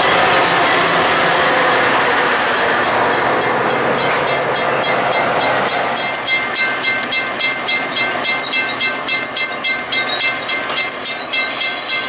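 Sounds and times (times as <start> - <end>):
high ringing tones: 0.0 - 12.0.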